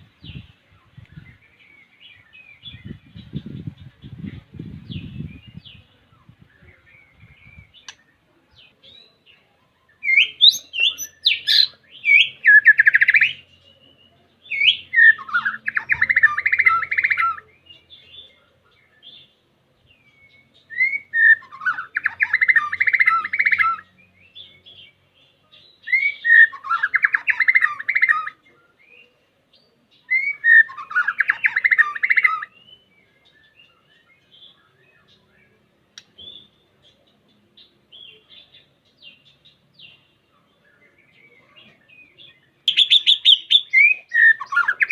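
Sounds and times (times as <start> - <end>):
bird song with whistles and trill: 0.0 - 44.9.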